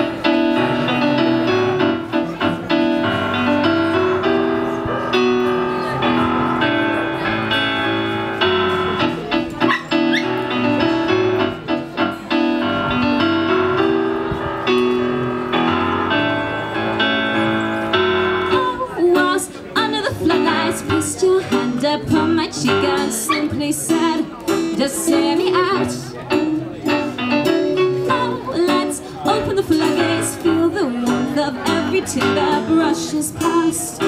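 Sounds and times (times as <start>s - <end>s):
acoustic guitar: 0.0s - 34.0s
electric keyboard piano sound: 0.0s - 34.0s.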